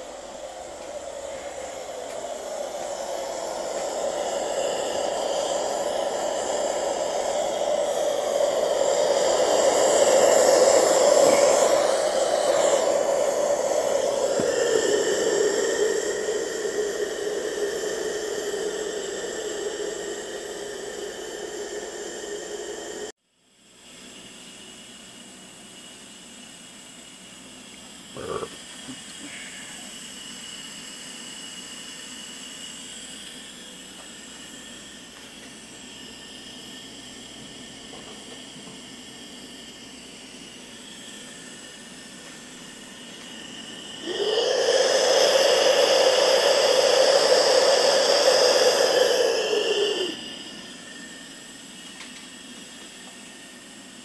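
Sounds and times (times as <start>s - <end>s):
loud rushing hiss: 0.0s - 23.1s, 24.0s - 54.0s
gas torch hissing: 0.0s - 54.0s.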